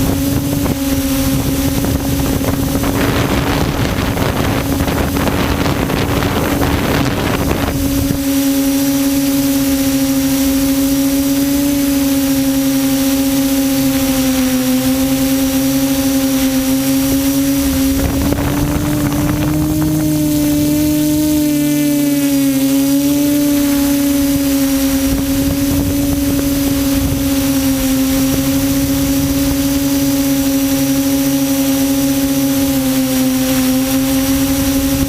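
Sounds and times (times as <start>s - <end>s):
quadcopter motors droning: 0.0s - 35.0s
wind buffeting microphone: 0.0s - 35.0s.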